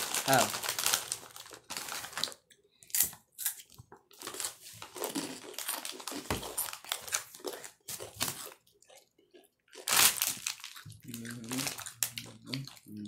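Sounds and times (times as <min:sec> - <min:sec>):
chip bag crinkling: 0:00.0 - 0:03.2, 0:04.1 - 0:08.7, 0:09.7 - 0:12.9
crunching and chewing chips: 0:00.0 - 0:13.0.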